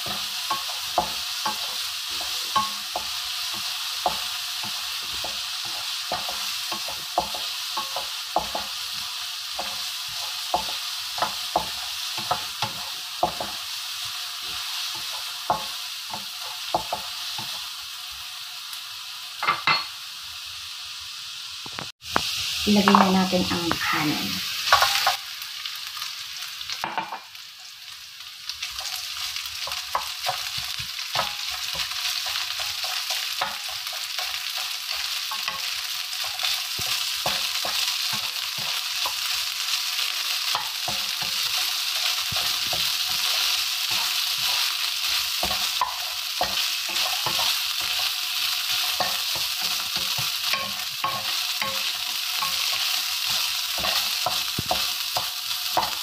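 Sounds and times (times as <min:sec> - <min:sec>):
rice frying and sizzling in pan: 0:00.0 - 0:56.0.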